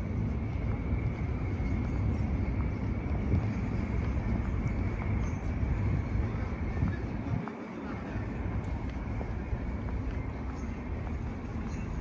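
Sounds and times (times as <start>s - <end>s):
distant traffic: 0.0s - 12.0s.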